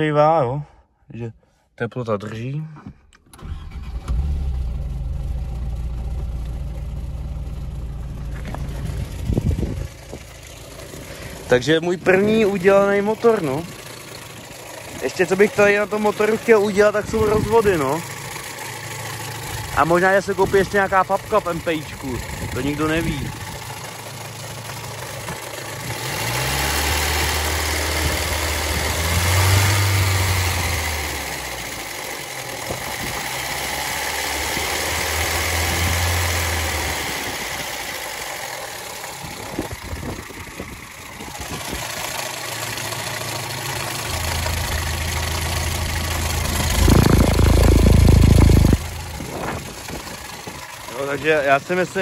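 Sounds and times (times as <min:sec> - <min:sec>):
car engine idling: 0:03.0 - 0:52.0.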